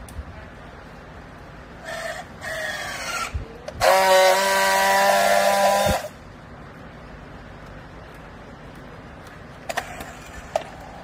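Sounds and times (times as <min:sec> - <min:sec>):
loud steady welding buzz: 0:00.0 - 0:11.0.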